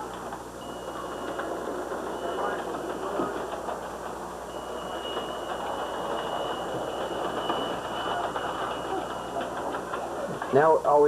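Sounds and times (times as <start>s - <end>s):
wheel clatter on track: 0.0s - 10.8s
model train whine: 0.0s - 11.0s.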